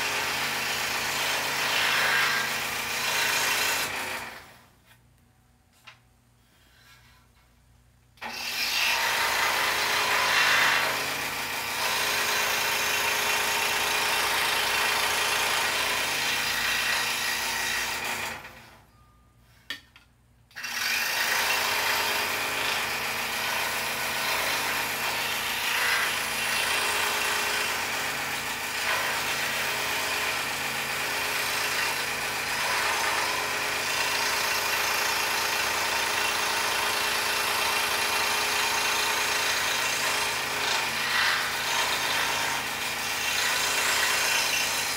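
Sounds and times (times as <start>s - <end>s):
scroll saw cutting wood: 0.0s - 4.6s, 8.2s - 18.6s, 20.5s - 44.9s.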